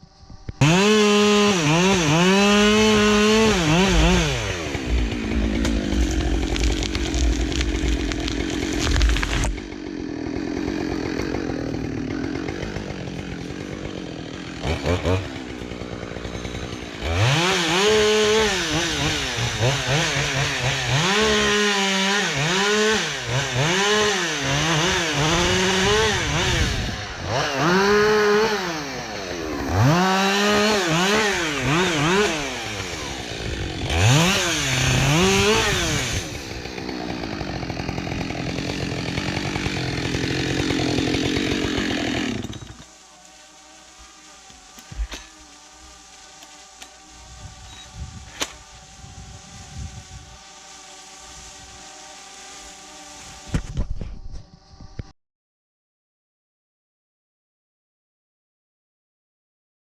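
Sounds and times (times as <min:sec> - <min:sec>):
chainsaw revving: 0:00.6 - 0:53.6.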